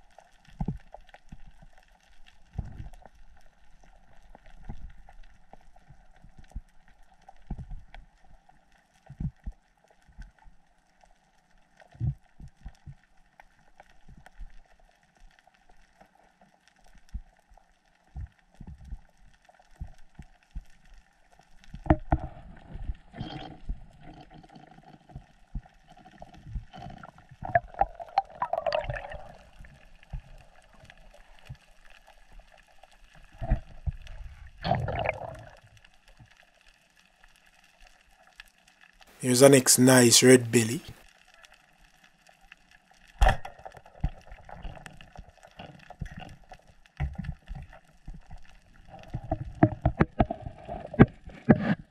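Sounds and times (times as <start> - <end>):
underwater bubbling and gurgling: 0.0 - 39.1, 40.9 - 51.9.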